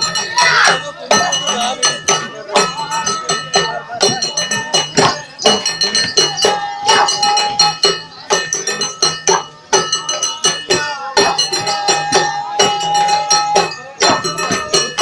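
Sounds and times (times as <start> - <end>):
drum strokes: 0.0 - 15.0
small cymbals or bells ringing: 0.0 - 15.0.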